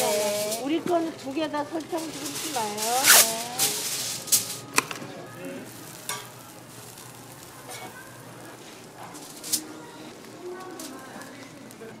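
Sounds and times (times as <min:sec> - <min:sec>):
omelette sizzling on a griddle: 0:00.0 - 0:04.8, 0:05.4 - 0:12.0
aluminium foil tearing and rustling: 0:00.0 - 0:12.0.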